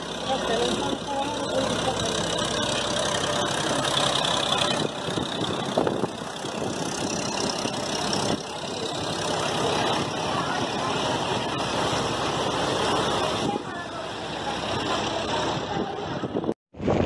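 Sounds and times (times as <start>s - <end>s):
water splashing around wheels: 0.0s - 16.5s
tractor diesel engine under load: 0.0s - 17.0s.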